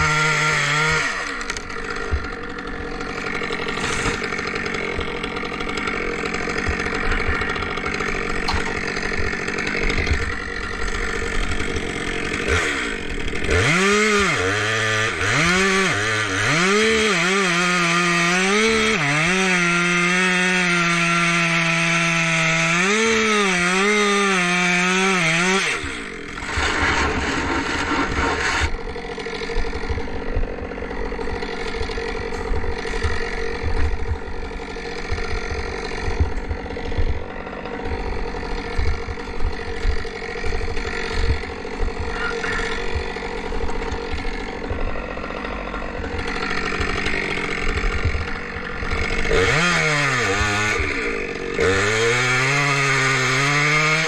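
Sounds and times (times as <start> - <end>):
chainsaw cutting at high revs: 0.0 - 54.0.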